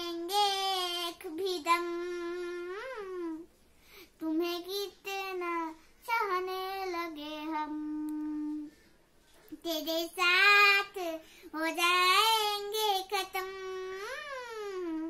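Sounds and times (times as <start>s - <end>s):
girl singing: 0.0s - 3.5s, 4.2s - 8.8s, 9.5s - 15.0s.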